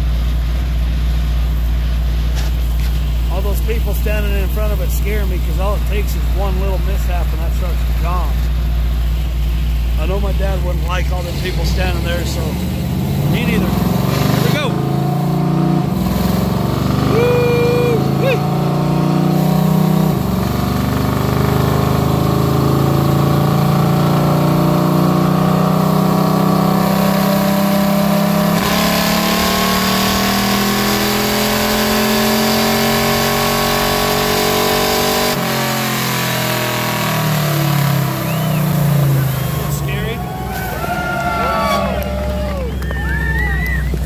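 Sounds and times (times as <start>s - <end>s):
truck engine running hard: 0.0s - 44.0s.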